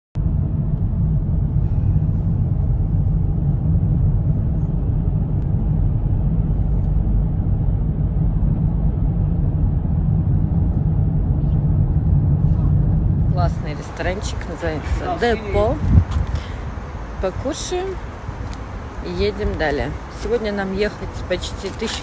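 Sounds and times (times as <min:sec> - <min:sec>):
car cabin road rumble: 0:00.2 - 0:22.0.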